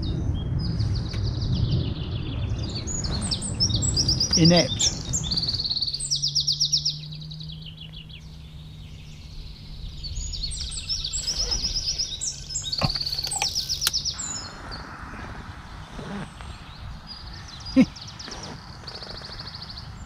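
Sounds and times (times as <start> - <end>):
low hum: 0.0 - 20.0
songbirds trilling: 0.0 - 20.0.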